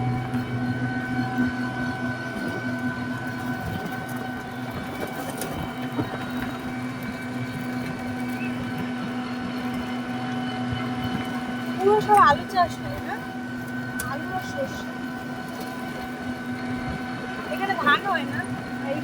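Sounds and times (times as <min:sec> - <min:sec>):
vehicle engine hum: 0:00.0 - 0:19.0
vehicle running rumble: 0:00.0 - 0:19.0.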